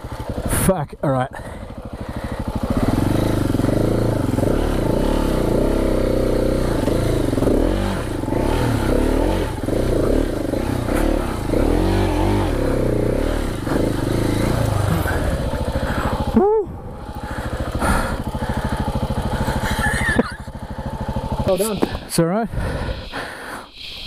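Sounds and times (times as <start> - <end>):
motorcycle engine revving under load: 0.0 - 23.0.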